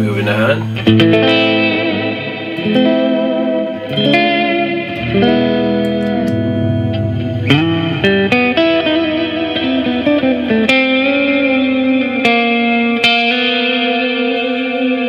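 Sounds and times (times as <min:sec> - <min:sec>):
electric guitar with reverb: 0:00.0 - 0:15.0.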